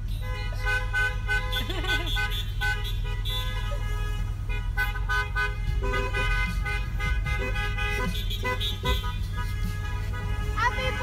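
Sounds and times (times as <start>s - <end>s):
car horns honking: 0.0s - 11.0s
road and engine rumble: 0.0s - 11.0s.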